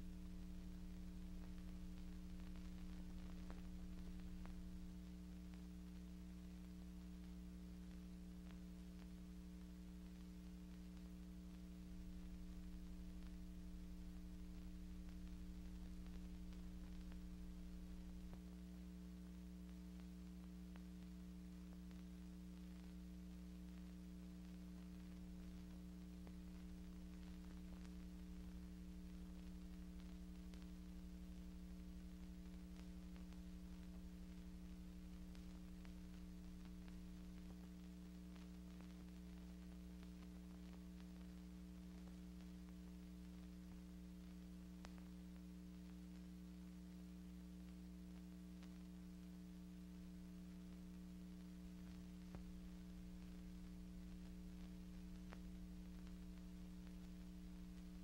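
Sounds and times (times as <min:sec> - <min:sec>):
steady electrical hum: 0:00.0 - 0:58.0.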